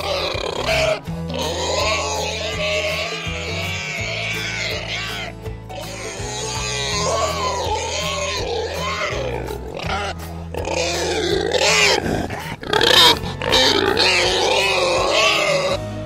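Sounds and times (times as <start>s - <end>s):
pig grunting and squealing: 0.0s - 15.9s
background music with bass: 0.0s - 16.0s.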